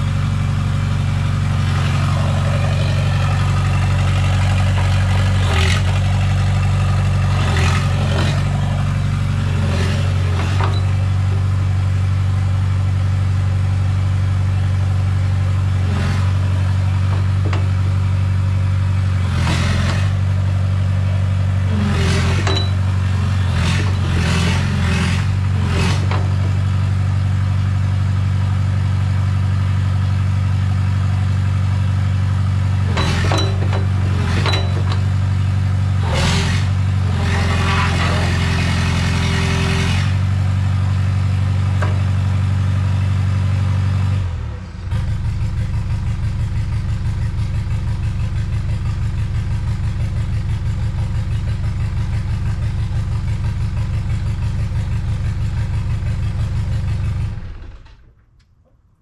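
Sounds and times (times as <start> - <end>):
clatter: 0.0 - 12.0, 15.5 - 58.8.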